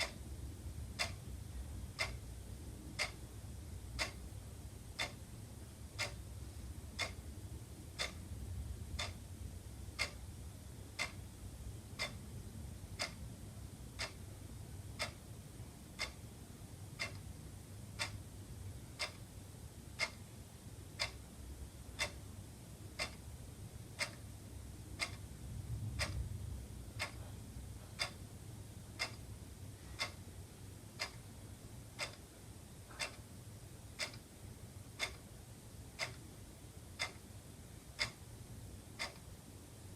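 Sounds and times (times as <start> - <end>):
wall clock ticking: 0.0 - 39.4
faint low rumble: 0.0 - 39.9.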